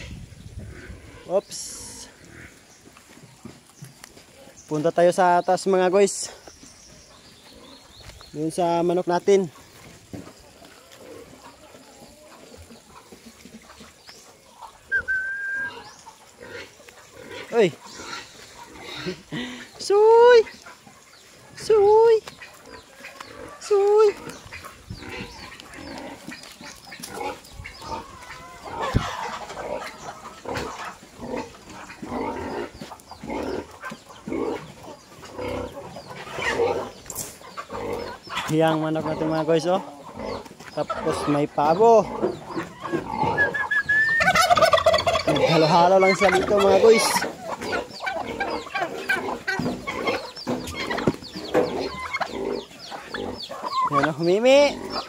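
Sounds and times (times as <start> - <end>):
chickens clucking: 0.0 - 55.0
farm animals calling: 0.0 - 55.0.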